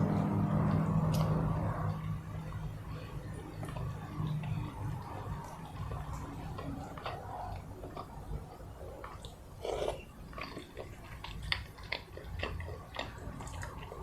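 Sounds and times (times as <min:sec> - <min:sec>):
chewing and wet mouth clicks: 0:00.7 - 0:02.1, 0:03.2 - 0:14.0.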